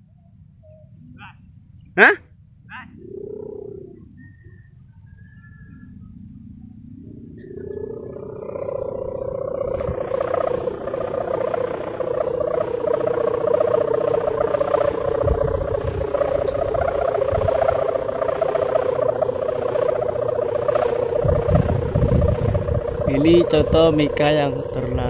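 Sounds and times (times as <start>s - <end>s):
kite hummer droning in wind: 0.0s - 25.0s.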